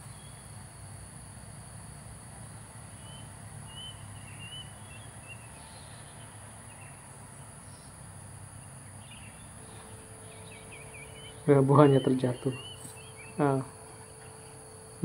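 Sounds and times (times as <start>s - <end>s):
distant bird calls: 0.0s - 0.6s, 2.4s - 15.0s
high-pitched insect drone: 0.0s - 15.0s.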